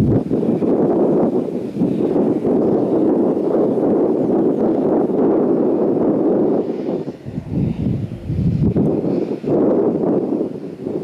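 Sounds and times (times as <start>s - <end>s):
jet aircraft rumble: 0.0s - 11.0s
wind buffeting microphone: 0.0s - 11.0s.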